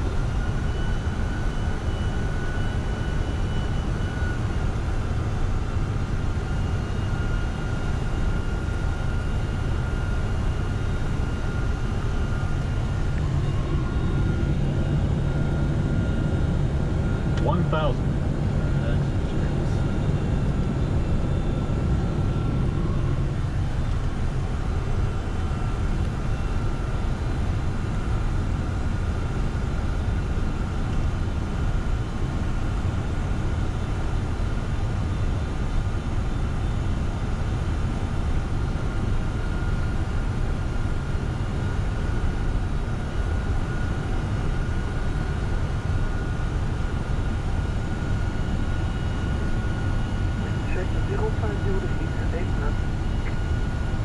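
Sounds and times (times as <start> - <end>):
airflow and engine rumble: 0.0 - 54.0.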